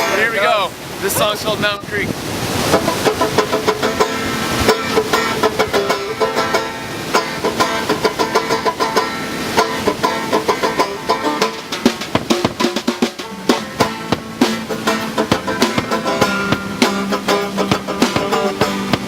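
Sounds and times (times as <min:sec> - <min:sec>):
banjo picking: 0:00.0 - 0:01.3, 0:02.5 - 0:19.0
creek rushing: 0:00.0 - 0:19.0.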